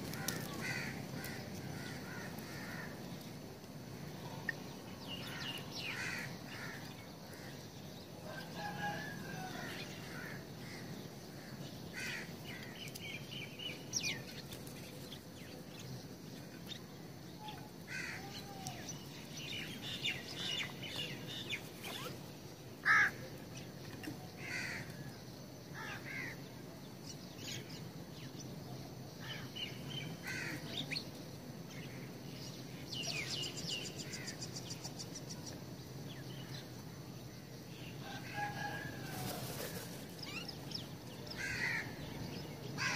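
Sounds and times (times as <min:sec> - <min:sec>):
birds chirping and tweeting: 0:00.0 - 0:42.9.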